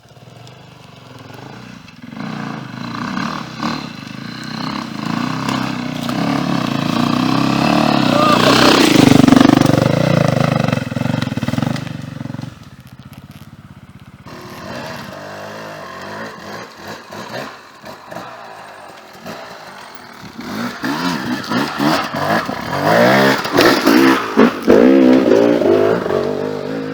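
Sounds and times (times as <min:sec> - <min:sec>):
dirt bike engine revving: 0:00.1 - 0:26.9.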